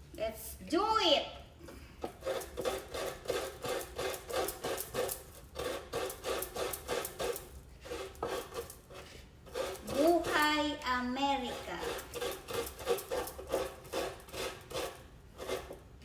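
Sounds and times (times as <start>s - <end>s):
coconut rasping on grater: 2.0s - 10.7s, 11.3s - 15.9s.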